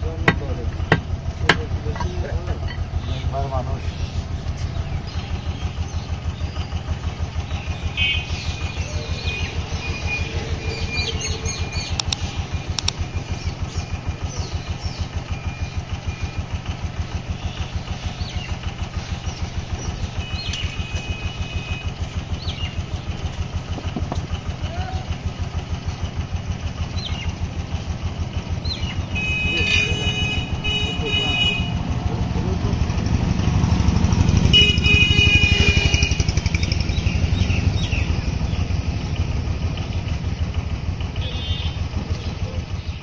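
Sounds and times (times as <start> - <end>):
small engine idling: 0.0 - 43.0.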